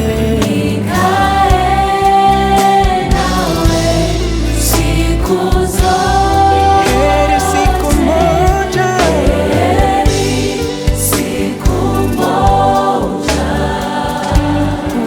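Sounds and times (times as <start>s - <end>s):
gospel choir with band: 0.0s - 15.0s.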